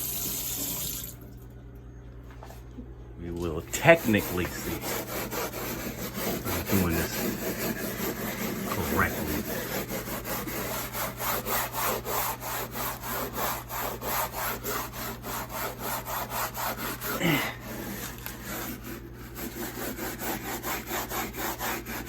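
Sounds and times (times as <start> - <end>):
steel scrubber scouring: 3.4 - 22.0.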